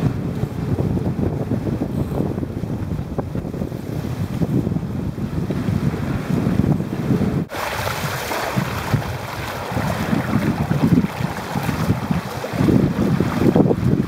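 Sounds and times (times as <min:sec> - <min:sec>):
water rushing along a hull: 0:00.0 - 0:14.0
wind buffeting microphone: 0:00.0 - 0:14.0.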